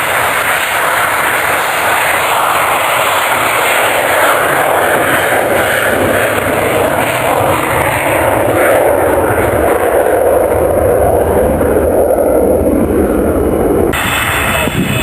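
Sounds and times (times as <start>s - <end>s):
aircraft roaring overhead: 0.0s - 15.0s.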